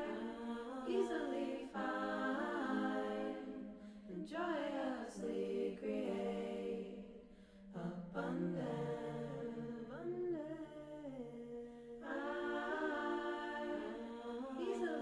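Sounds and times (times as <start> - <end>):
slow a cappella singing: 0.0 - 15.0.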